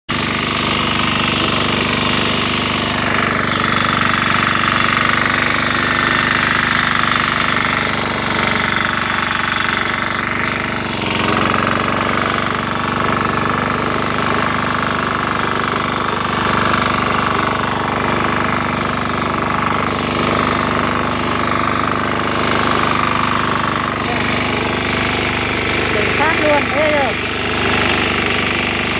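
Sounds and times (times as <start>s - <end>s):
lawn mower engine running: 0.1s - 28.9s.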